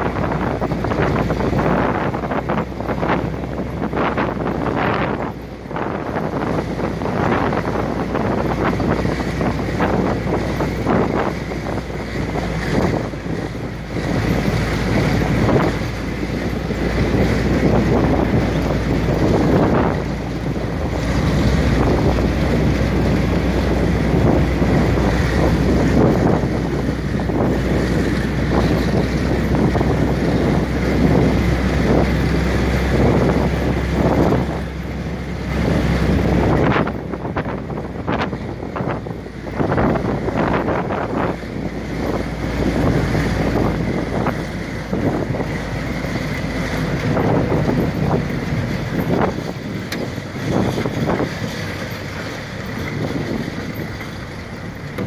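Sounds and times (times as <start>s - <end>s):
jeep engine droning: 0.0s - 55.0s
tyres on gravel: 0.0s - 55.0s
wind buffeting on microphone: 0.0s - 55.0s.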